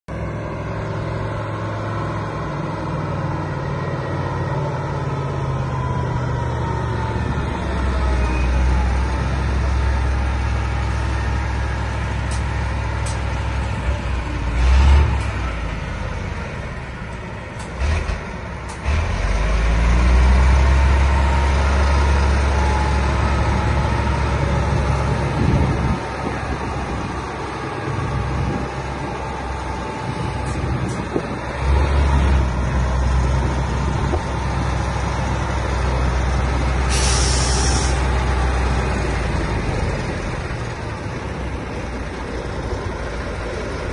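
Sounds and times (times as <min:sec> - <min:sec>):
diesel truck engine rumbling: 0:00.1 - 0:43.9.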